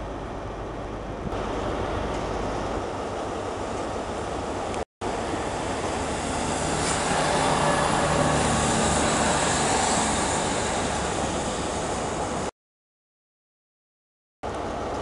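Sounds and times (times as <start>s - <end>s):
diesel train engine and rolling: 0.0s - 12.5s, 14.4s - 15.0s.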